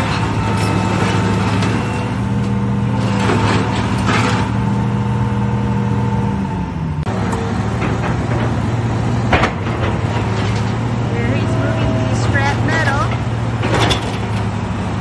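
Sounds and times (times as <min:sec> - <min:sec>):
debris crashing and clattering: 0:00.0 - 0:04.7, 0:07.7 - 0:15.0
excavator diesel engine running: 0:00.0 - 0:15.0.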